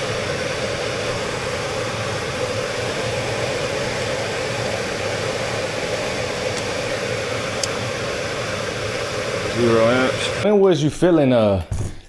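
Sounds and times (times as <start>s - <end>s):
blower motor rushing air: 0.0s - 10.5s.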